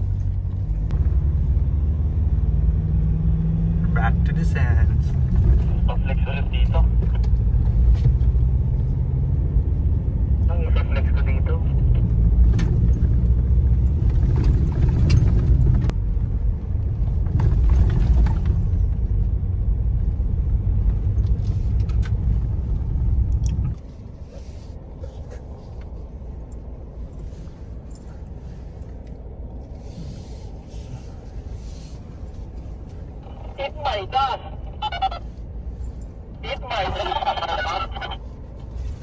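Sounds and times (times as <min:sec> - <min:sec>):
tyre and engine rumble: 0:00.0 - 0:39.0.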